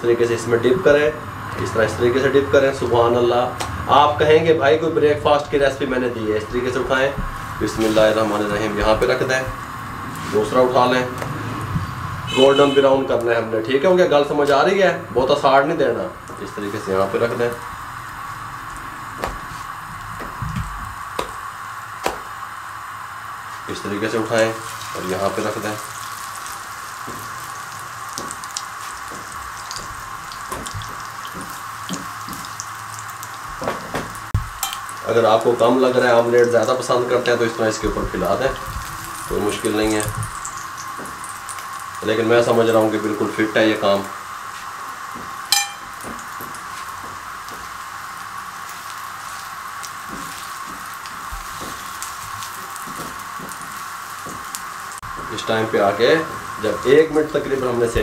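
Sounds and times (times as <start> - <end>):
bread sizzling in oil: 4.6 - 58.0.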